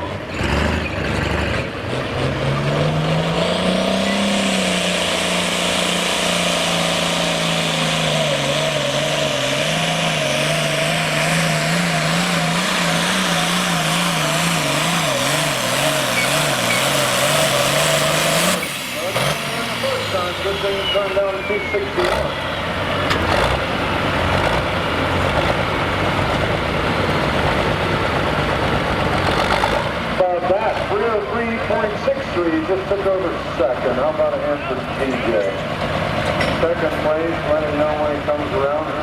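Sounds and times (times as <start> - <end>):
tractor diesel engine at full throttle: 0.0 - 39.0.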